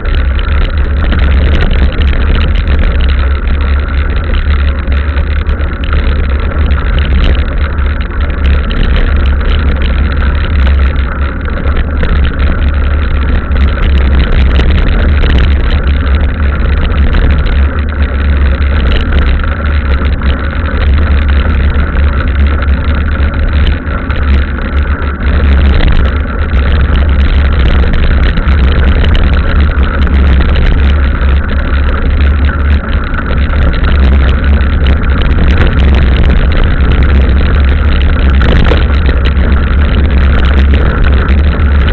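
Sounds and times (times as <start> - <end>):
bike tyres rolling roughly: 0.0 - 41.9
wind buffeting microphone: 0.0 - 41.9.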